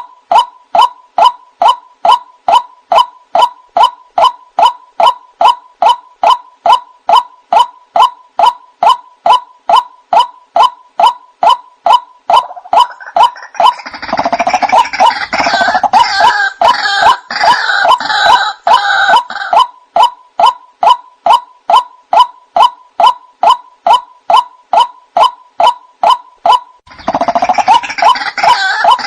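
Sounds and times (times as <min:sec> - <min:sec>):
waterhen calls: 0:00.0 - 0:29.0
rough chorus of bird calls: 0:01.7 - 0:29.0.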